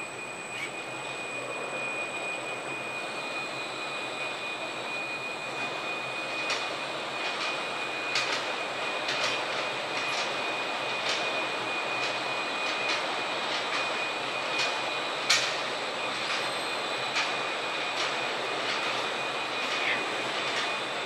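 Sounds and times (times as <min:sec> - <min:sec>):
machine humming with high whine: 0:00.0 - 0:21.0.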